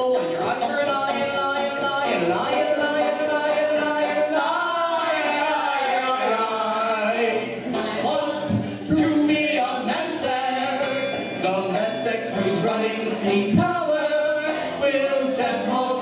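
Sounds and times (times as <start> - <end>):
banjo: 0.0 - 16.0
man and woman singing: 0.0 - 16.0
upright bass: 0.0 - 16.0.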